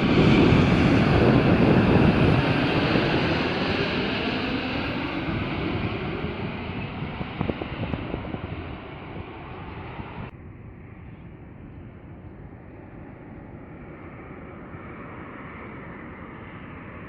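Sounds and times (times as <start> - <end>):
jet engines rushing: 0.0 - 17.0.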